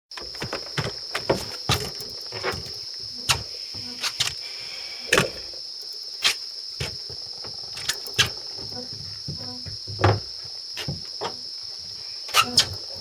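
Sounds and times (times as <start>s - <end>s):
high-pitched insect drone: 0.2s - 13.0s.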